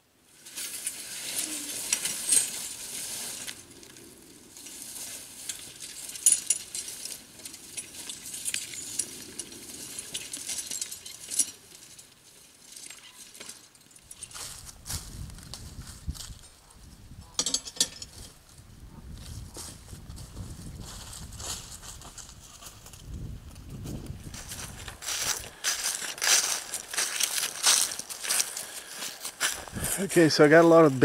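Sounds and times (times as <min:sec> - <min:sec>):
dry leaves and brush rustling: 0:00.2 - 0:16.8, 0:18.0 - 0:31.0.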